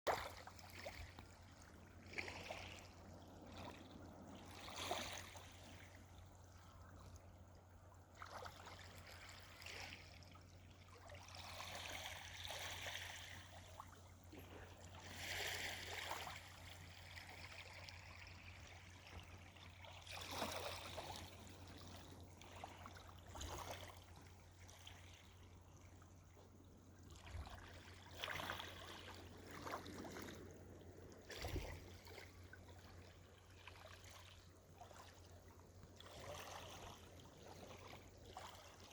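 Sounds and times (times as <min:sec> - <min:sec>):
faint washing of water: 0:00.1 - 0:38.9
low steady hum: 0:00.1 - 0:38.9.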